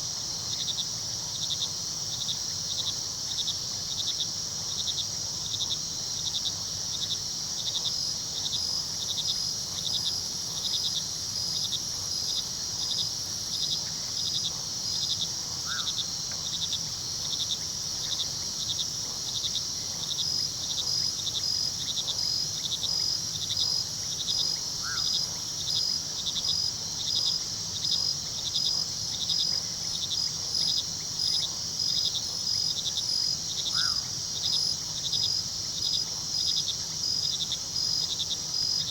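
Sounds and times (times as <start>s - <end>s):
crickets trilling and chirping: 0.0s - 38.9s.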